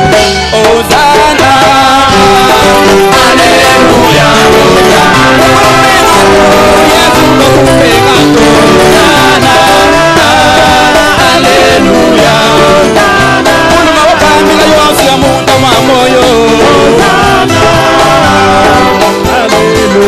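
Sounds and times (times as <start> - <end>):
live band with drums: 0.0 - 20.0
male group singing gospel: 0.5 - 20.0.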